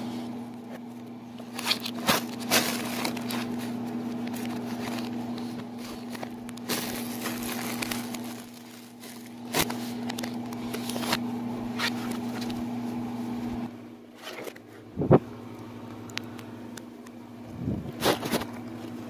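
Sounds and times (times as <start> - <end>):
popcorn popping: 0.0 - 17.2
microwave oven humming: 0.0 - 19.0.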